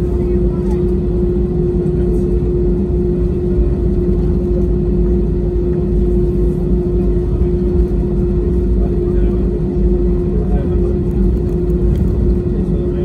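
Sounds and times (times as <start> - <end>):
constant hum: 0.0 - 13.0
jet engines idling rumble: 0.0 - 13.0.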